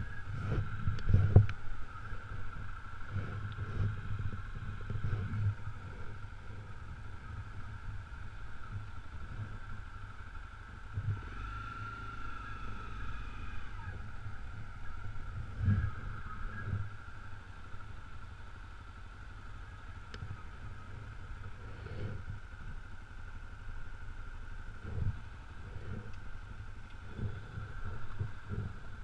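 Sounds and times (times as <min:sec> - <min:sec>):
motorcycle engine running: 0:00.0 - 0:29.0
steady high-pitched whine: 0:00.0 - 0:29.0.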